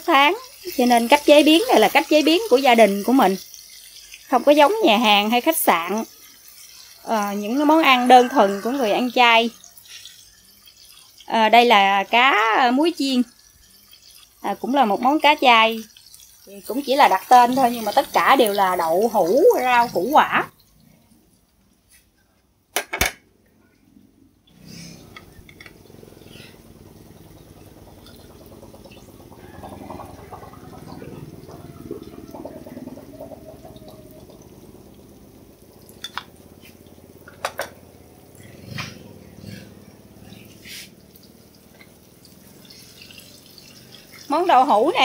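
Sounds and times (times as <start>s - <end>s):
hot oil sizzling: 0.0s - 22.2s, 24.5s - 45.0s.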